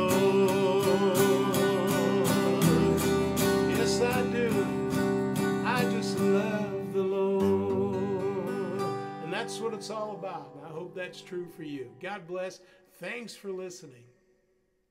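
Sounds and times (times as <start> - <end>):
acoustic guitar strummed: 0.0 - 12.4.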